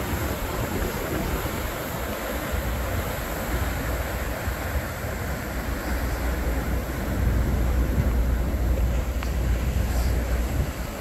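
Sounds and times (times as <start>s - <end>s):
ocean surf breaking on rocks: 0.0s - 11.0s
wind buffeting microphone: 0.0s - 11.0s.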